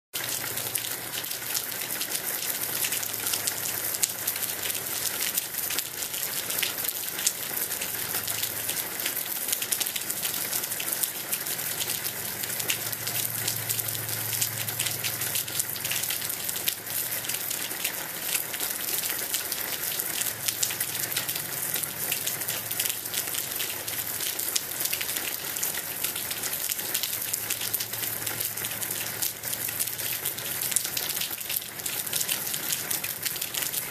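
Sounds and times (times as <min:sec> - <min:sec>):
steady rain falling: 0:00.2 - 0:33.9.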